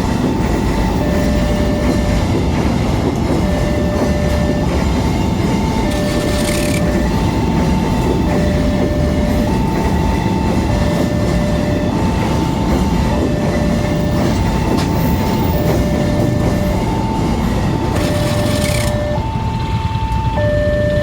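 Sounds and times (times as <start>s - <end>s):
train rumbling past: 0.0s - 21.0s
two-tone crossing warning alarm: 0.0s - 21.0s.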